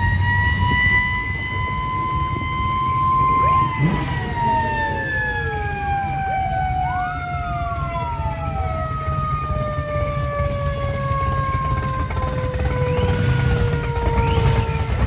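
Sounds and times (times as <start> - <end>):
emergency vehicle siren: 0.0 - 15.0
low rumble of traffic: 0.0 - 15.0
other wailing sirens: 0.0 - 15.0.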